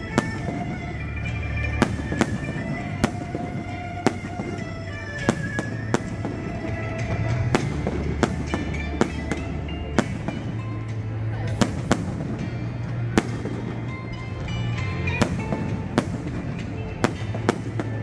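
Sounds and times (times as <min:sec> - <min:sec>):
fireworks bursting with sharp bangs: 0:00.0 - 0:18.0.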